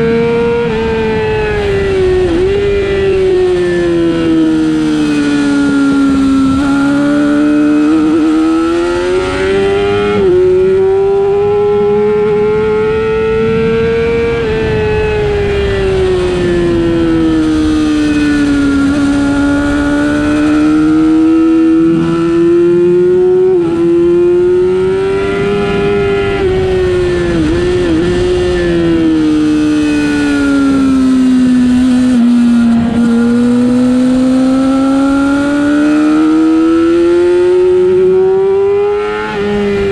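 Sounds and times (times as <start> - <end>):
superbike engine revving: 0.0 - 39.9.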